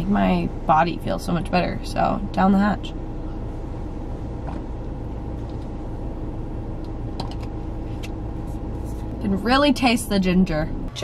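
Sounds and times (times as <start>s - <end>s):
car cabin rumble and hum: 0.0s - 11.0s.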